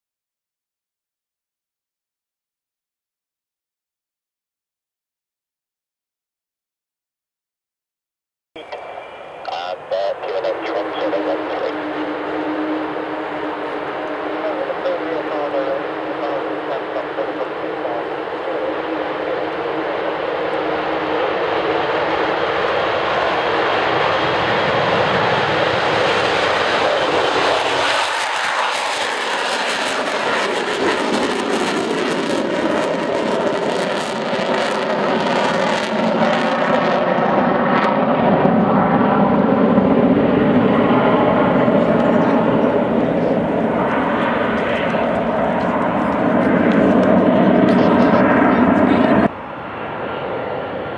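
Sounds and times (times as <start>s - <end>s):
droning engine tones: 8.6s - 50.9s
jet engines roaring: 8.6s - 50.9s.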